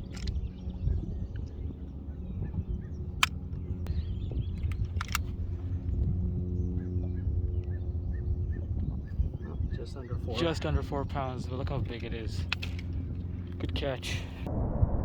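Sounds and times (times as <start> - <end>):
boat motor humming: 0.0 - 14.5.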